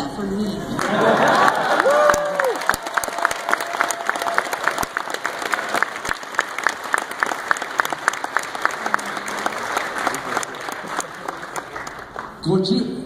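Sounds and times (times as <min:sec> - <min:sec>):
audience applauding: 0:00.8 - 0:12.4.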